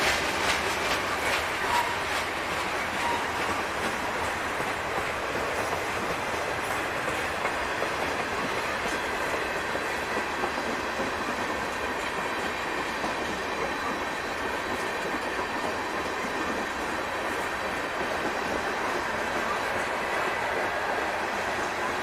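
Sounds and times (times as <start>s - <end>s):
train wheels rolling over rails: 0.0s - 22.0s.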